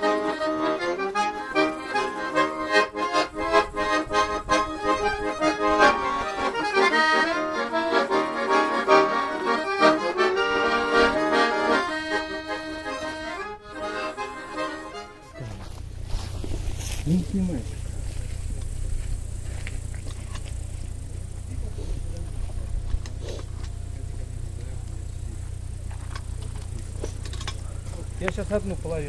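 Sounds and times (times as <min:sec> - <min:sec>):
accordion music: 0:00.0 - 0:29.0.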